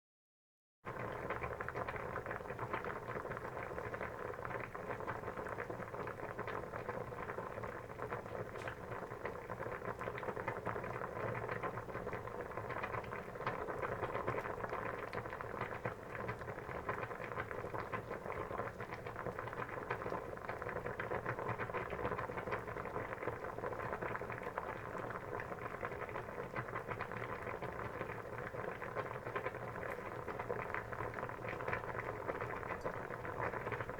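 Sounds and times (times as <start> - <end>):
water boiling: 0.9 - 33.9.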